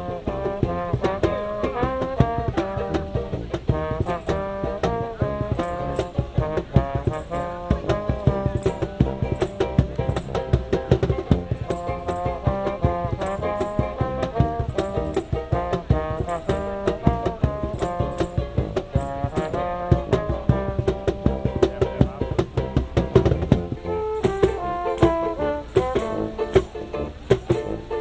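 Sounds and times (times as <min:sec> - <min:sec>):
cajon beat: 0:00.0 - 0:28.0
trombone and tuba playing: 0:00.0 - 0:28.0
shaker rattling: 0:02.1 - 0:28.0.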